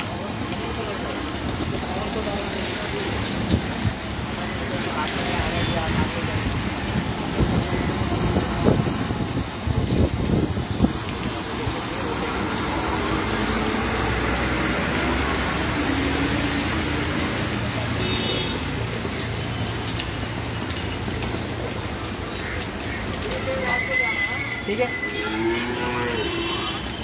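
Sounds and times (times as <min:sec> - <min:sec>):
steady rain hiss: 0:00.0 - 0:23.9
tyres swishing through water: 0:00.0 - 0:27.0
vehicle engines running: 0:00.0 - 0:27.0.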